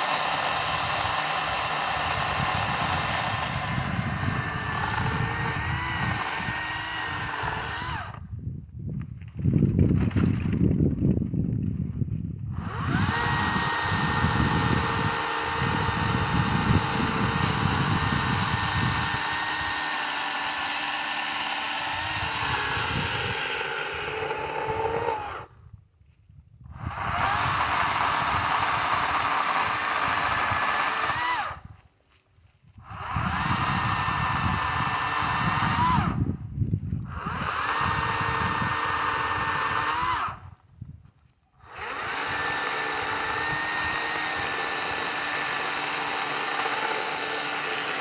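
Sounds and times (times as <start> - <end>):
chain cutting wood: 0.0 - 8.2, 12.5 - 25.5, 26.7 - 31.8, 32.8 - 36.3, 37.0 - 40.4, 41.6 - 48.0
electric chainsaw whining: 0.0 - 8.2, 12.5 - 25.6, 26.7 - 31.8, 32.8 - 36.4, 37.0 - 40.5, 41.6 - 48.0.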